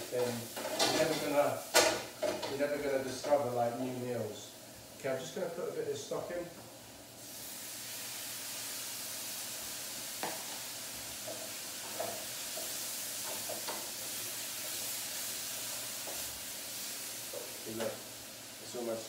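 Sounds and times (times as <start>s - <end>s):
liquid sizzling in frying pan: 0.0s - 5.7s, 6.4s - 19.0s.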